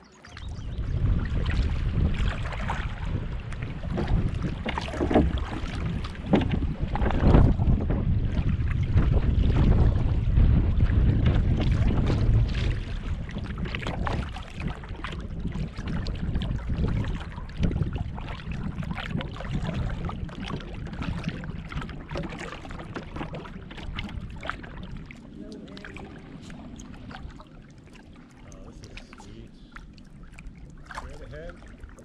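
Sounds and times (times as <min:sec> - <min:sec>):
water splashing around kayak: 0:00.0 - 0:32.0
wind rumble on microphone: 0:00.0 - 0:32.0.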